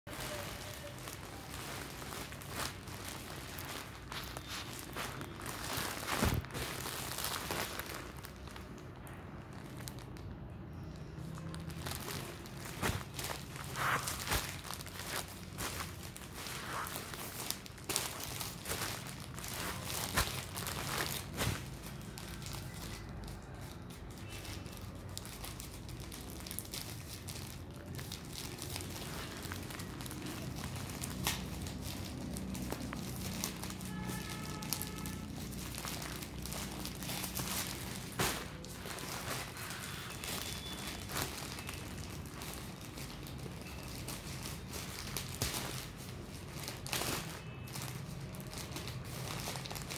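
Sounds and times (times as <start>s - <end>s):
plastic mailer bag crinkling: 0.1s - 10.2s, 11.2s - 49.9s.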